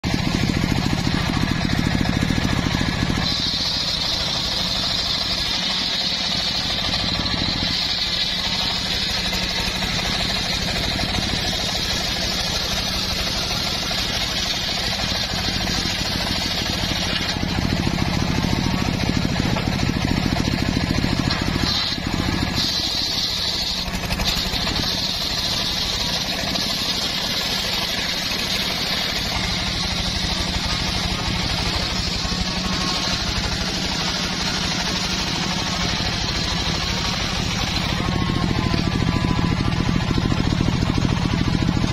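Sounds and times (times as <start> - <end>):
drive motor running: 0.0 - 41.9
saw blade ripping through log: 0.1 - 38.8.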